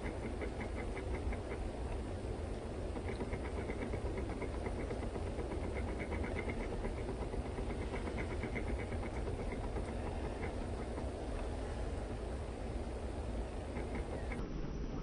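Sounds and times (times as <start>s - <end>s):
low outdoor rumble and hiss: 0.0s - 15.0s.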